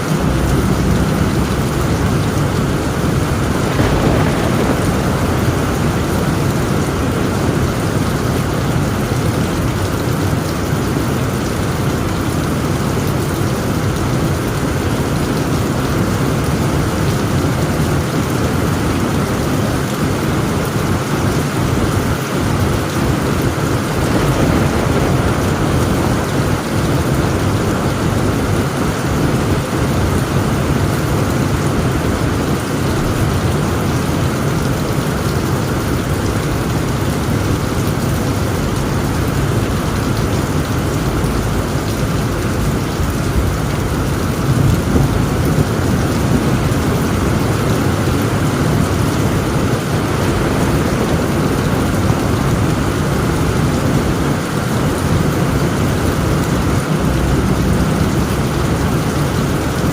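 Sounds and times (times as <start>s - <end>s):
heavy rain on a tent roof: 0.0s - 59.9s
low thunder rumble: 0.0s - 59.9s.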